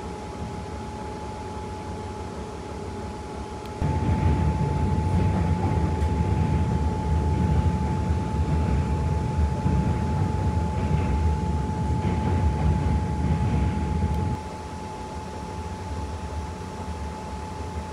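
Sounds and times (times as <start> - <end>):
diesel railcar rumbling: 0.0 - 14.6
thin steady whine: 0.0 - 17.9.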